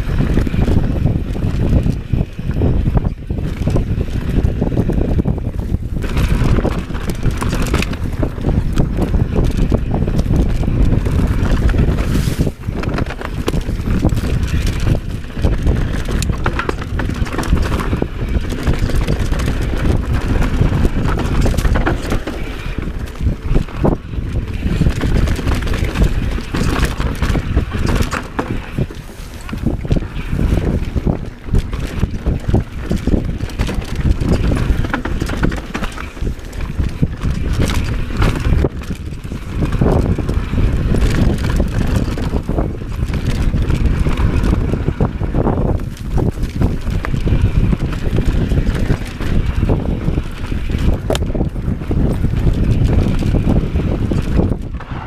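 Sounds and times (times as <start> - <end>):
bike rattling and knocking: 0.0 - 55.0
tyres on dirt: 0.0 - 55.0
wind buffeting microphone: 0.0 - 55.0.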